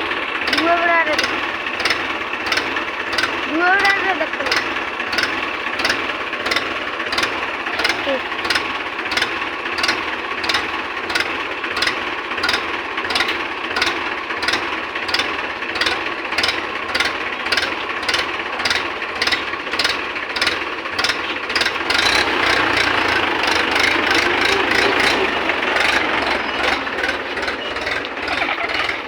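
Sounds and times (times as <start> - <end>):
ticking rattle: 0.0 - 29.0
tractor diesel engine running: 0.0 - 29.0.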